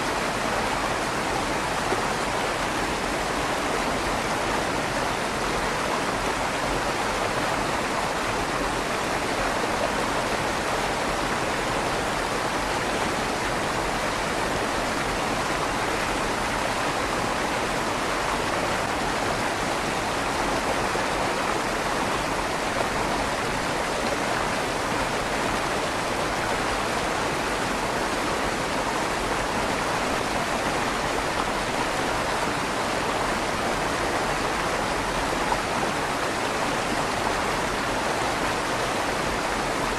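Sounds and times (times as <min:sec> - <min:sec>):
river water rushing through tunnel: 0:00.0 - 0:39.9.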